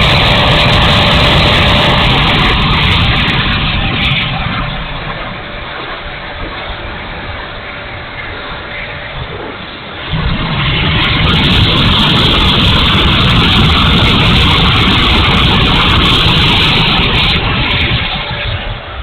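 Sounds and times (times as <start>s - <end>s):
model jet fan rushing: 0.0s - 19.0s.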